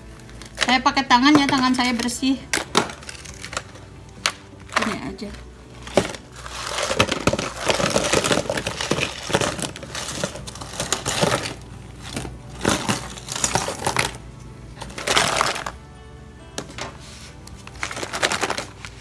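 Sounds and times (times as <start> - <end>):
plastic ice tray crackling: 0.0 - 14.2, 14.8 - 15.8, 16.6 - 19.0
ice cubes clattering into plastic tub: 0.4 - 14.2, 14.8 - 15.8, 17.8 - 18.8.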